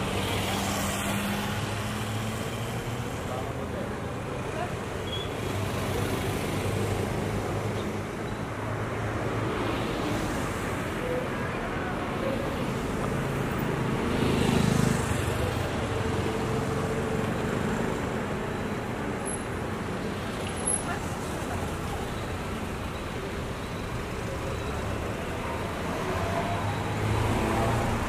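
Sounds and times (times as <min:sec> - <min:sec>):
steady traffic hum: 0:00.0 - 0:28.0
vehicles passing: 0:00.0 - 0:28.0.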